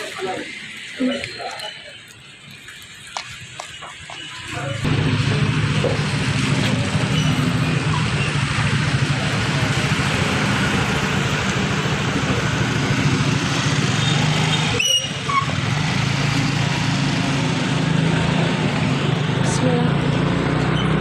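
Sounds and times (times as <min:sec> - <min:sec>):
road noise: 0:00.0 - 0:21.0
vehicle engine running: 0:03.1 - 0:21.0.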